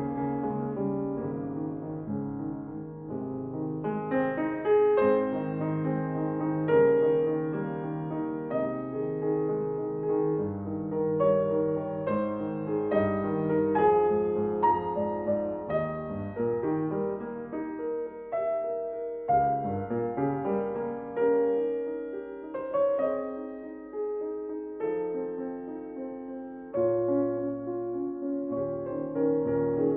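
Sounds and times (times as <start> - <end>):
slow classical piano piece: 0.0 - 29.9.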